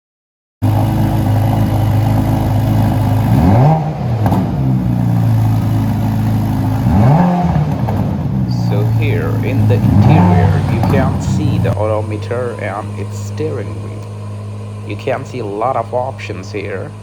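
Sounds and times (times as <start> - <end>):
car engine idling and revving: 0.6 - 17.0.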